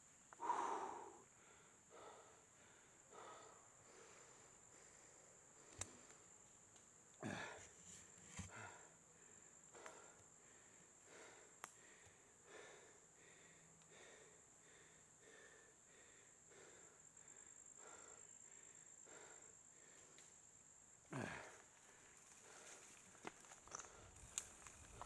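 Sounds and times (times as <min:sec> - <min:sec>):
faint laboured breathing: 0:00.3 - 0:06.4, 0:07.2 - 0:20.4, 0:21.1 - 0:25.0.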